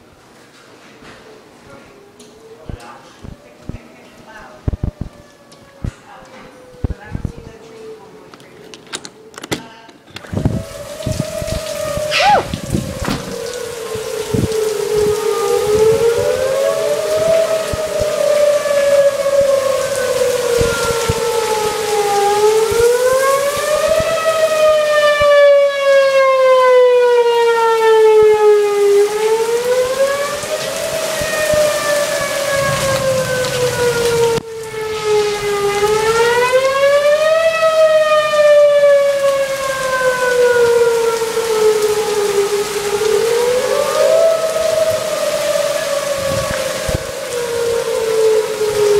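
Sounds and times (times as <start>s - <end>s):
steady rain: 0.0s - 48.9s
warning siren wailing: 1.3s - 9.5s, 10.2s - 48.9s.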